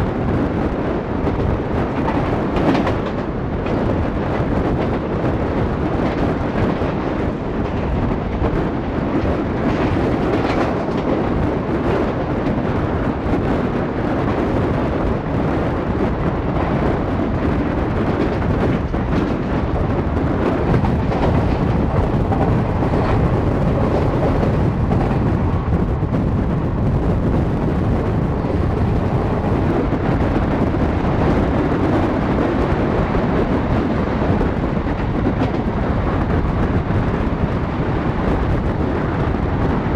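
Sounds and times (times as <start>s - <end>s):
train rumbling on rails: 0.0s - 39.9s
wind buffeting microphone: 0.0s - 39.9s.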